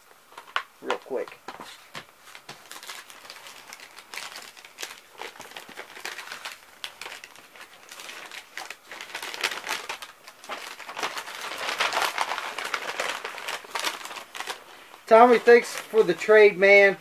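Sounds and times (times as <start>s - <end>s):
paper rustling and crinkling: 0.3s - 16.6s.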